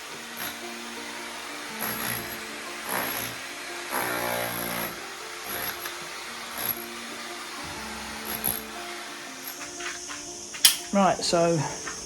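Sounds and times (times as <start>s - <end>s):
power tool running in bursts: 0.0s - 10.2s.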